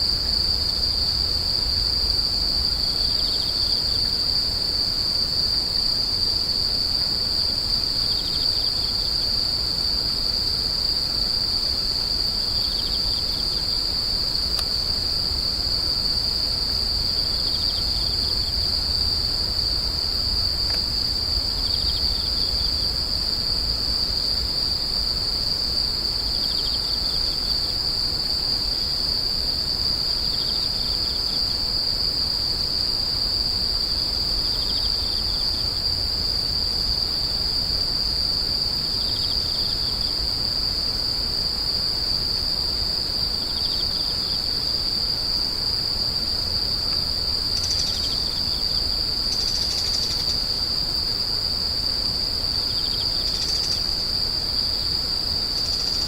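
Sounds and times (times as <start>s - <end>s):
crickets trilling: 0.0s - 56.0s
insect chirps: 0.0s - 56.0s.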